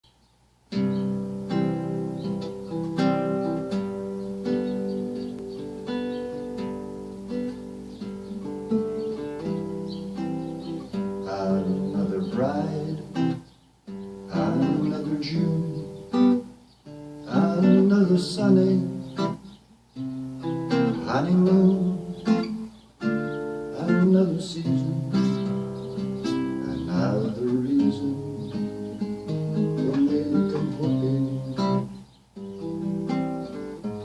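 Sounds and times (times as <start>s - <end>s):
acoustic guitar chords: 0.0s - 34.0s.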